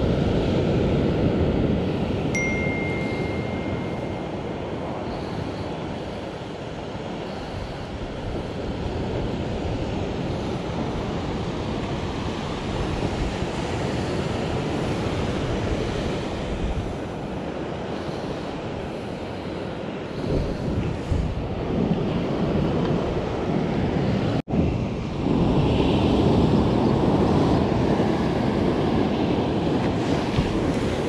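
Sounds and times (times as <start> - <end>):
ocean surf breaking: 0.0 - 31.0
wind buffeting microphone: 3.3 - 31.0.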